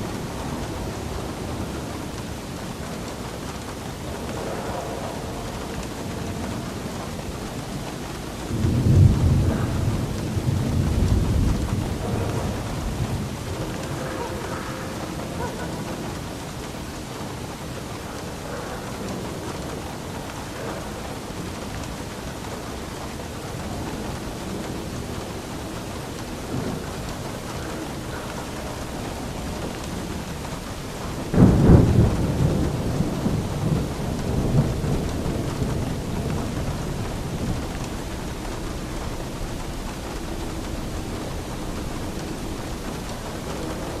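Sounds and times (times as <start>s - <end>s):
steady rain falling: 0.0s - 44.0s
thunder crack and rumble: 0.0s - 44.0s.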